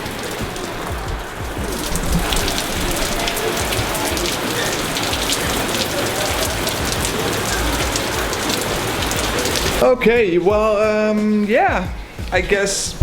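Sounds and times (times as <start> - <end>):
raindrops ticking sharply: 0.0 - 13.0
steady rain falling: 0.0 - 13.0.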